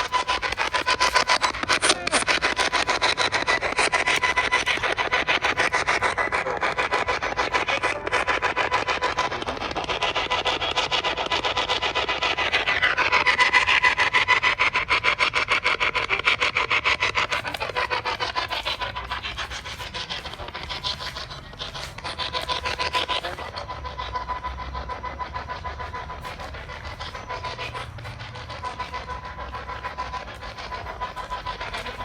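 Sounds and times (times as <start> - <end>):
fast rasping pulses: 0.0 - 32.0.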